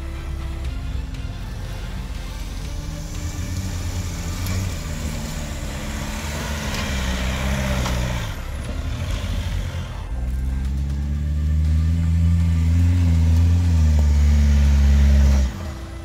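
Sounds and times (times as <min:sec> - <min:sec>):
car engine climbing a slope: 0:00.0 - 0:16.0
tyres crunching over gravel: 0:00.0 - 0:16.0.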